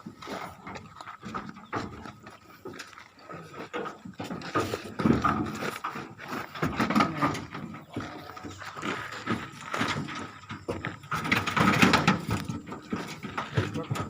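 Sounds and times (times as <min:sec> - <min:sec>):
sheep hooves knocking and scuffing: 0:00.0 - 0:14.0.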